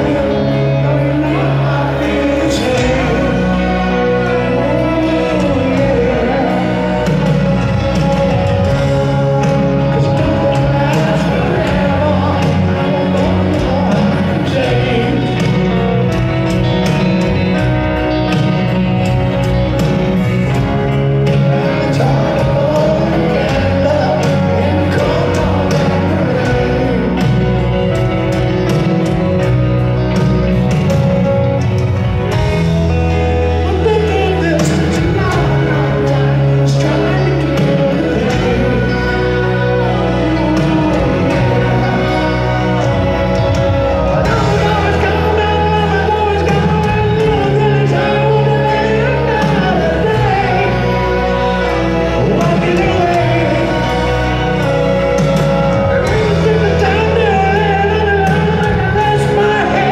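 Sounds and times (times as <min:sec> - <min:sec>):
live rock ballad over pa: 0:00.0 - 0:59.9
person singing: 0:00.0 - 0:59.9
piano: 0:00.0 - 0:59.9.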